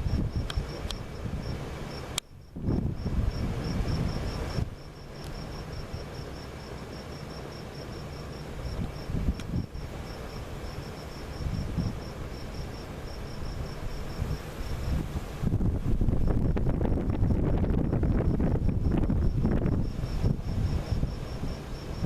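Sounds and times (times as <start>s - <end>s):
wind rumble on microphone: 0.0s - 6.7s, 8.4s - 22.0s
cricket chirping: 0.0s - 22.0s.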